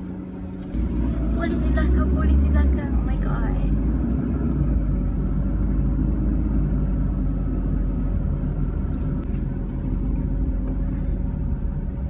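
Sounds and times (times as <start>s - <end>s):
car engine rumble: 0.0s - 12.0s
road noise inside car: 0.0s - 12.0s.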